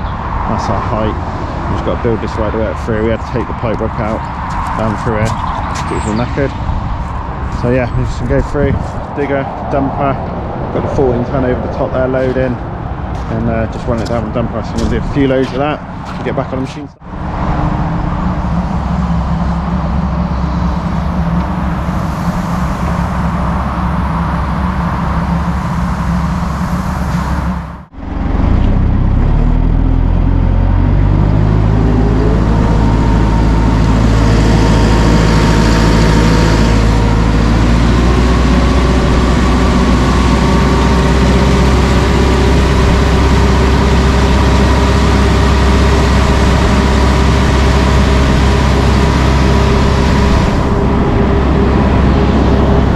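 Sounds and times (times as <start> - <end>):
diesel engine running and revving: 0.0 - 52.9.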